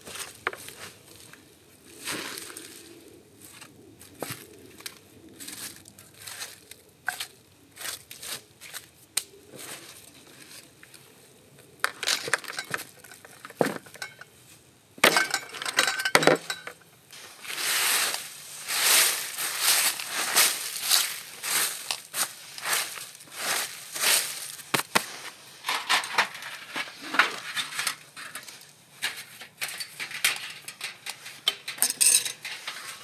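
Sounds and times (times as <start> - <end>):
firewood and dry leaves rustling: 0.0 - 33.0.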